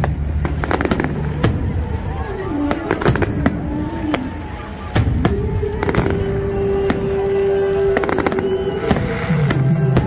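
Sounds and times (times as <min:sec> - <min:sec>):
fireworks bursting with sharp bangs: 0:00.0 - 0:10.0
music holding a long note: 0:00.0 - 0:10.0.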